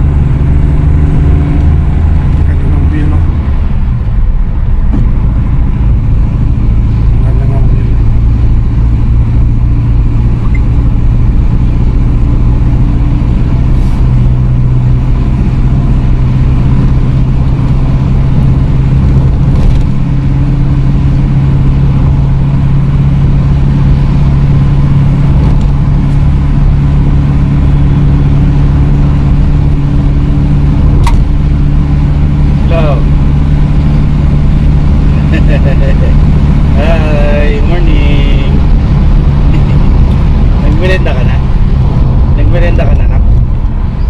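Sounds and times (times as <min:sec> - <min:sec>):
car engine and road noise: 0:00.0 - 0:44.0.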